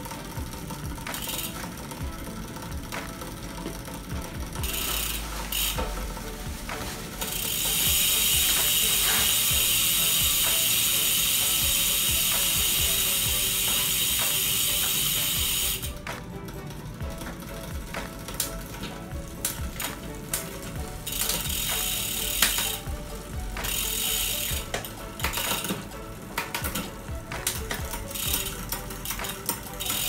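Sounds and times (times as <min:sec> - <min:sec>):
bicycle chain running: 0:00.0 - 0:30.0
freehub buzzing: 0:00.0 - 0:30.0
freehub pawls ticking: 0:00.0 - 0:30.0.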